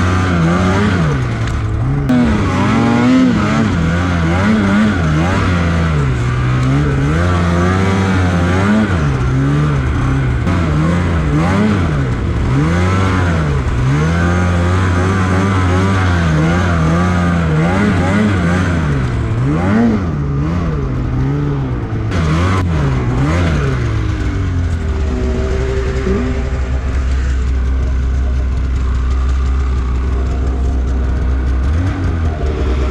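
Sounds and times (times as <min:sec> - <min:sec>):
snowmobile engine revving: 0:00.0 - 0:32.9.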